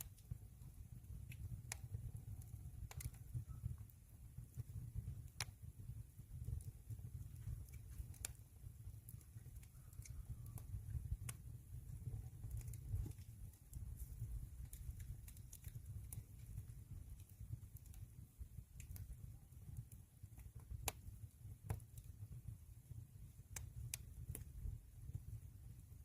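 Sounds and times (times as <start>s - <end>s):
burning wood crackling: 0.0s - 26.0s
fire flames rumbling: 0.0s - 26.0s.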